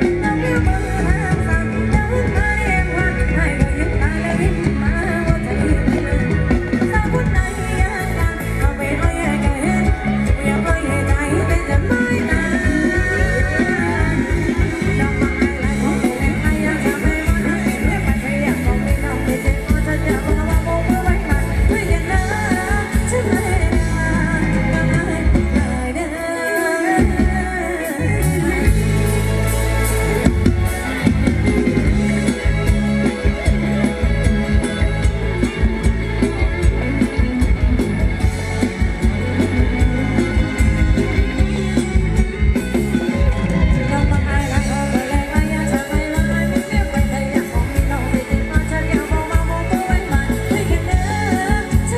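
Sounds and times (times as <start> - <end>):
person singing: 0.0 - 31.1, 33.1 - 51.9
live band dance music: 0.0 - 51.9.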